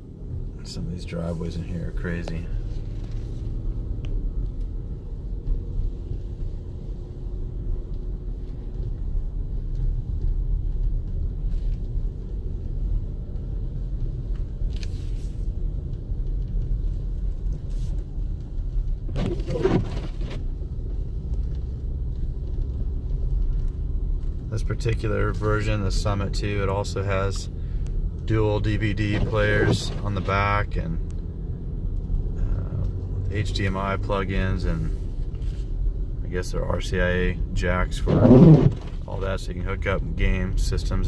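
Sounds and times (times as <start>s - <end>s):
engine and tyres rumbling: 0.0s - 41.0s.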